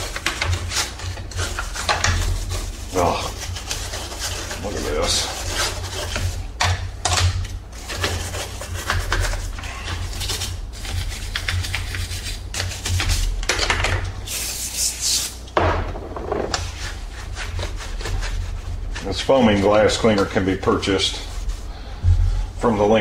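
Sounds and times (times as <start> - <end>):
brush scrubbing plastic: 0.0 - 13.4, 16.5 - 23.0.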